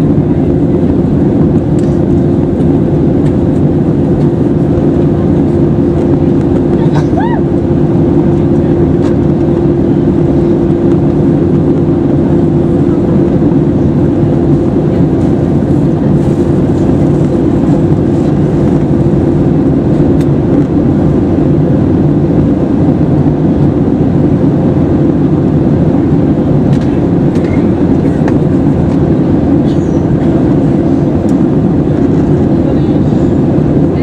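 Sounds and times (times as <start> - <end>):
jet engine hum: 0.0 - 34.0
loud rush of airflow: 0.0 - 34.0.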